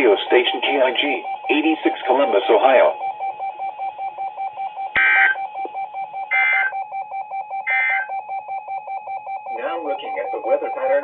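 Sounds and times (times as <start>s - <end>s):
rapidly pulsing electronic tone: 0.0s - 11.0s.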